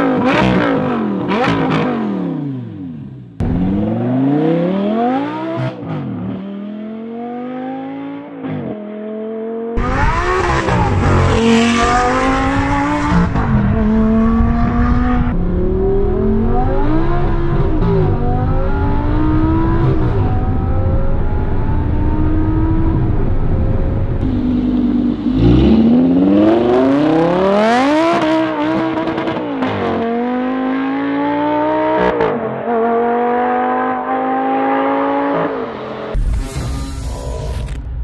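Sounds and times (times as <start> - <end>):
sports car engine accelerating: 0.0 - 36.2.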